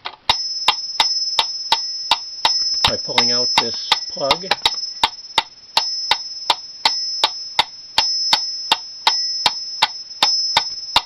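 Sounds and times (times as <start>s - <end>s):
mechanical metronome ticking: 0.0s - 11.0s
small metronome bell ringing: 0.3s - 11.0s.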